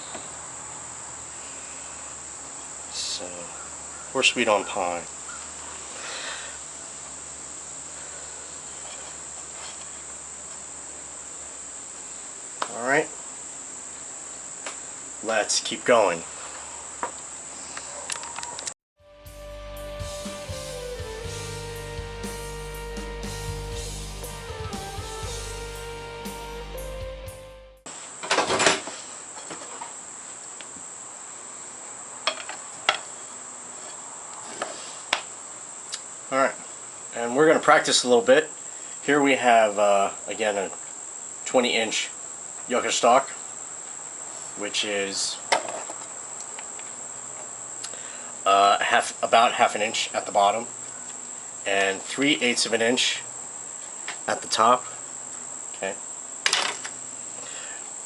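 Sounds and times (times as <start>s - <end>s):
high-pitched insect trill: 0.0s - 18.8s, 27.9s - 58.0s.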